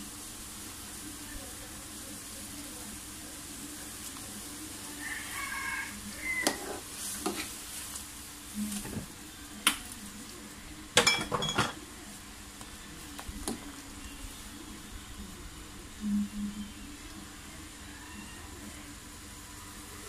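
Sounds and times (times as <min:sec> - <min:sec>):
gravy simmering hiss: 0:00.0 - 0:20.0.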